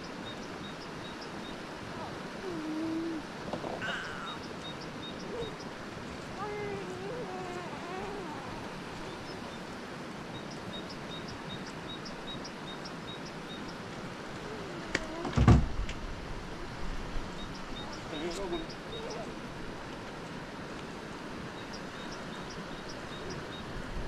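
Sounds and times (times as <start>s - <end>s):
outdoor noise: 0.0s - 24.0s.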